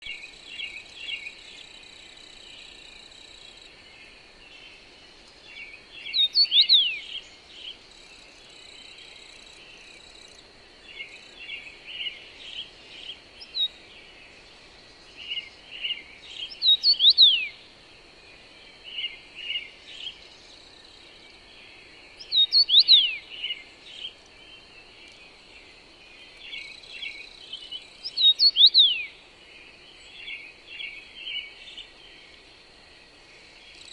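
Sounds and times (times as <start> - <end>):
high insect whine: 0.0 - 33.9
quiet bird chirping: 0.0 - 33.9
wind-like noise: 0.0 - 33.9.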